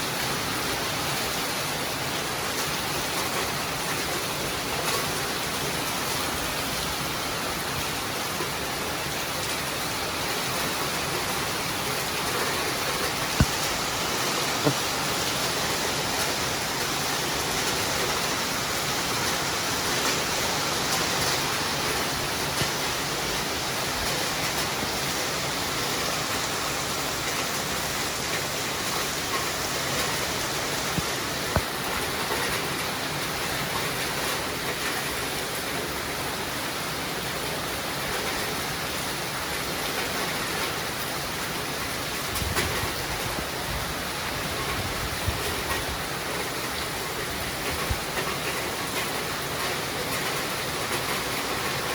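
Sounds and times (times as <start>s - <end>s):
rain hissing: 0.0s - 51.9s.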